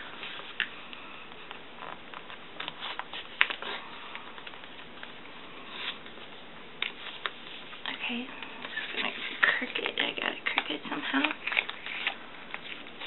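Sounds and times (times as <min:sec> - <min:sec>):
paper and tape rustling: 0:00.0 - 0:13.0.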